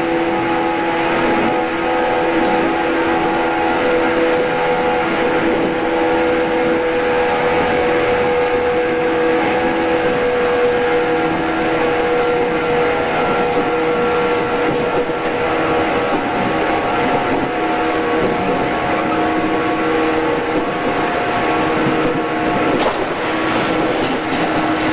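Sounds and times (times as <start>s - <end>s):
train motor whine: 0.0s - 24.9s
wheels rumbling on rail: 0.0s - 24.9s.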